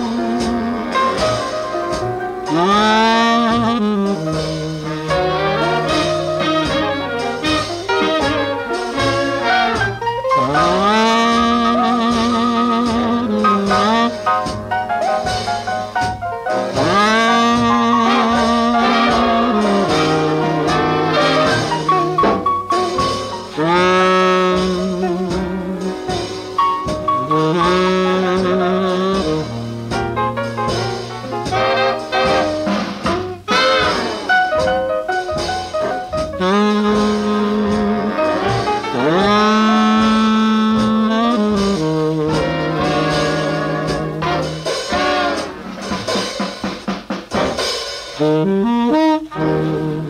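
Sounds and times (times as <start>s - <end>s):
jazz band horn section: 0.0s - 50.0s
saxophone and brass riffs: 0.0s - 50.0s.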